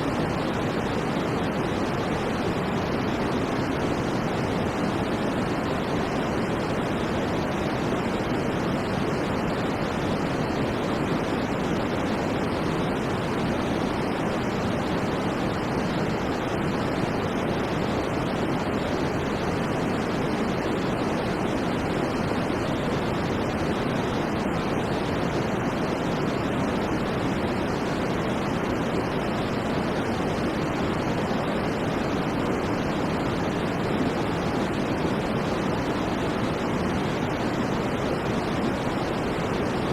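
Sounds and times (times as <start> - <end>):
deep white noise: 0.0 - 39.9.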